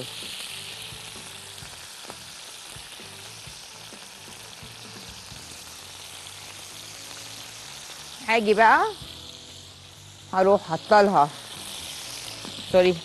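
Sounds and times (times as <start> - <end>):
meat and onion sizzling in oil: 0.0 - 13.0.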